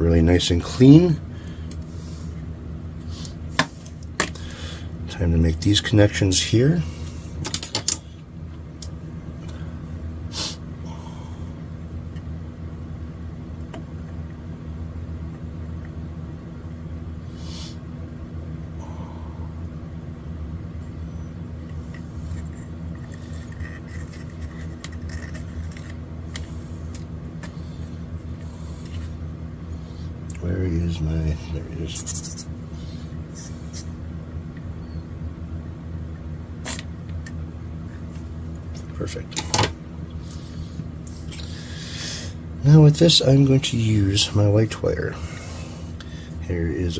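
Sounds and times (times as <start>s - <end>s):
low machine hum: 0.0s - 46.9s.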